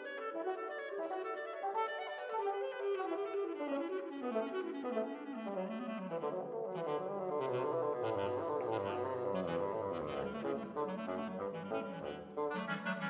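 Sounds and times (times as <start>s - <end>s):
woodwind quartet playing: 0.0s - 13.0s.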